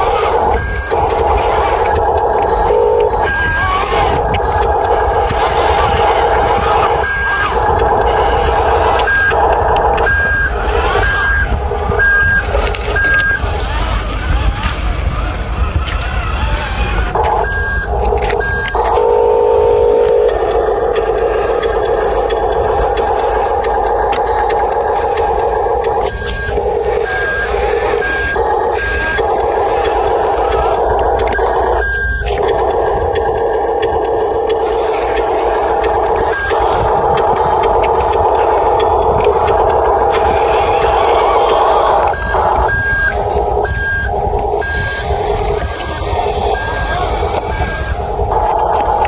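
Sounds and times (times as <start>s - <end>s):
reversing beeper beeps: 0.0s - 14.7s, 15.8s - 49.0s
model truck motor whining: 0.0s - 49.0s.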